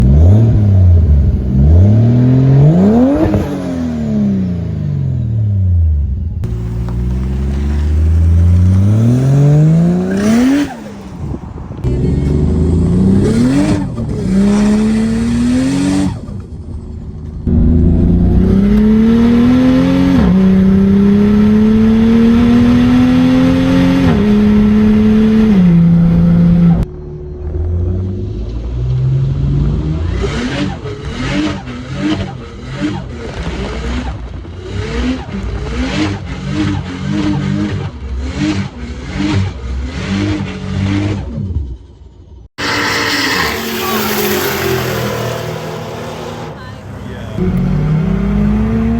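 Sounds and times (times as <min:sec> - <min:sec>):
car engine revving hard: 0:00.0 - 0:05.2, 0:06.4 - 0:16.4, 0:17.5 - 0:26.8, 0:28.9 - 0:41.5, 0:42.6 - 0:48.9.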